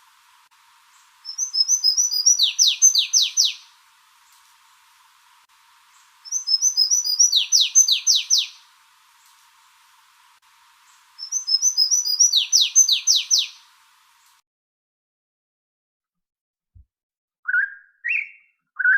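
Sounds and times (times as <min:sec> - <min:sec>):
songbird singing: 0:00.0 - 0:14.4, 0:17.4 - 0:18.9.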